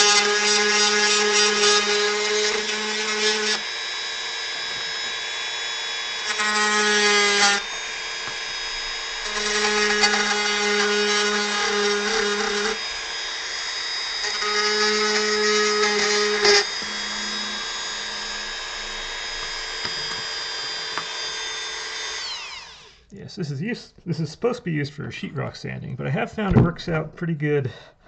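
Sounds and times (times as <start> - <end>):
rotary tool carving wood: 0.0 - 23.0.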